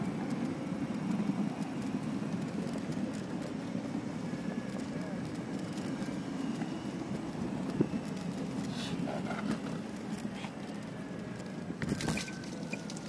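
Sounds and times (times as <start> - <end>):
small wheels rolling on paving: 0.0 - 13.0.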